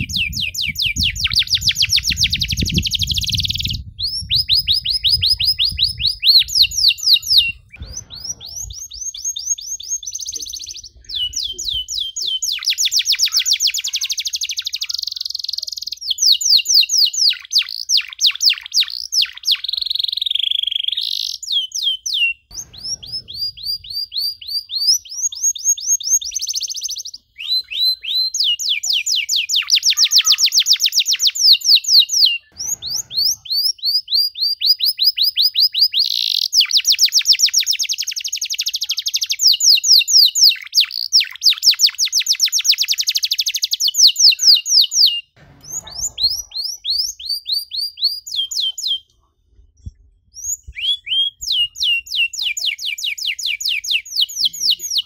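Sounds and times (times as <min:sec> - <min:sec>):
canary singing trills: 0:00.0 - 0:49.1.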